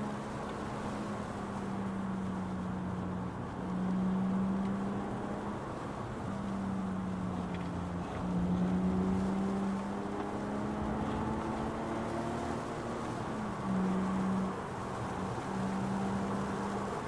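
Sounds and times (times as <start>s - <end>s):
car engine running: 0.0s - 17.0s
road and tyre noise: 0.0s - 17.0s.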